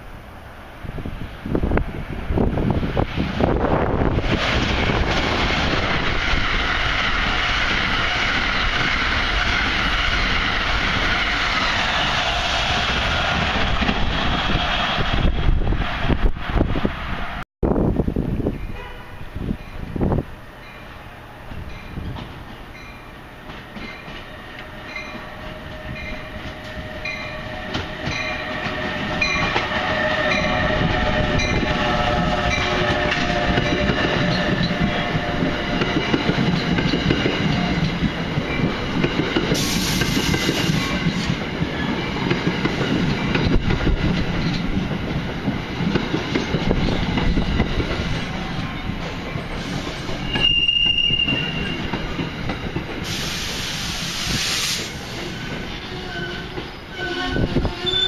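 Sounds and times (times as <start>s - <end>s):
train cars rushing past: 0.0s - 58.0s.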